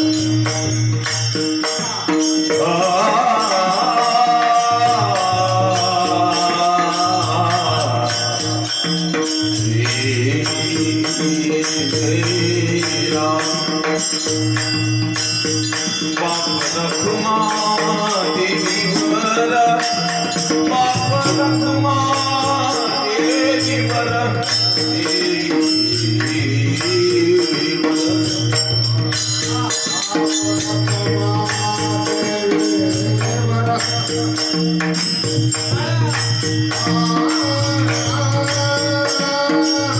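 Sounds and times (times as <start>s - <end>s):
hand cymbals jingling: 0.0s - 39.9s
repeating drum beat: 0.0s - 39.9s.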